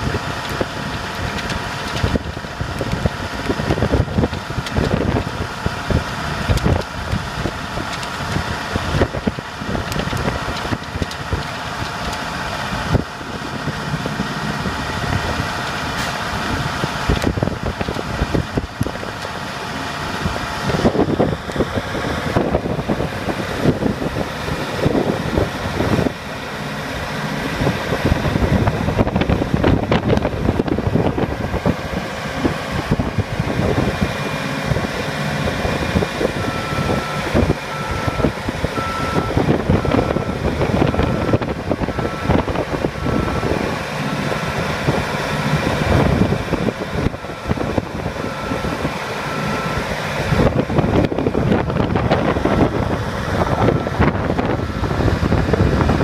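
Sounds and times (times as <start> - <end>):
hydraulic machine drone: 0.0 - 56.0.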